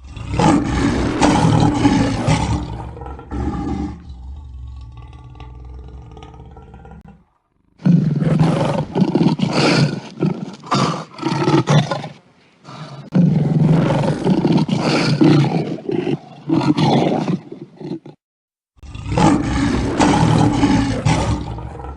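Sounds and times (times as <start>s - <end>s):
lion roaring: 0.0s - 12.0s, 13.1s - 18.2s, 18.8s - 21.9s.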